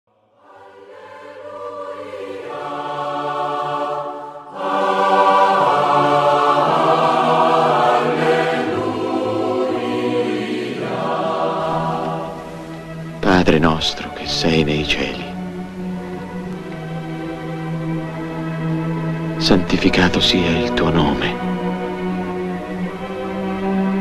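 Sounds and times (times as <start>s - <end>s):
choir holding chords: 0.1s - 24.0s.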